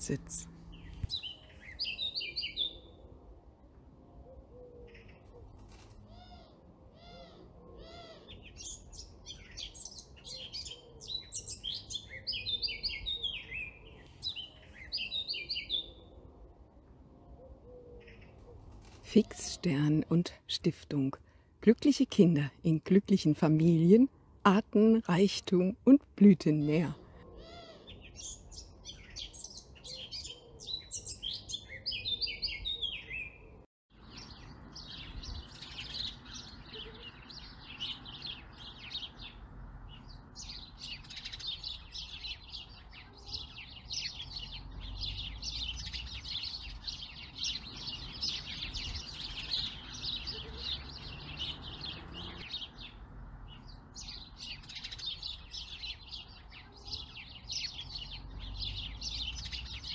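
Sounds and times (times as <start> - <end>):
birds chirping: 0.0 - 3.2, 4.2 - 16.4, 21.8 - 59.9.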